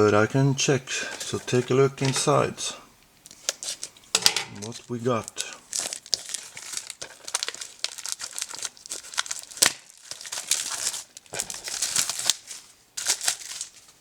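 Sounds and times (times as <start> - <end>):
plastic wrapping crinkling: 0.9 - 14.0.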